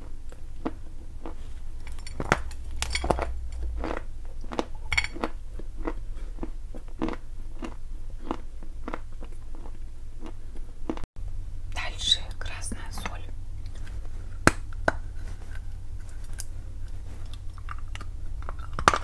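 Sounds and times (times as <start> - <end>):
crunching chews: 0.0 - 11.0, 13.6 - 19.0.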